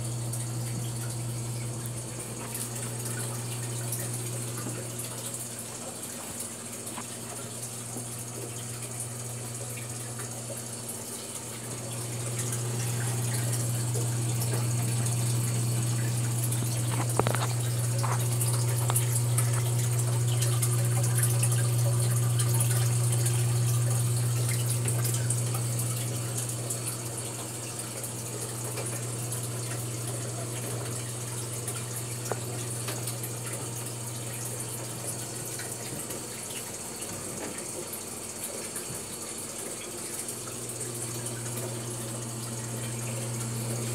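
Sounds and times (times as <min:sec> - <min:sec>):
trickling water: 0:00.0 - 0:43.9
water pump humming: 0:00.0 - 0:43.9.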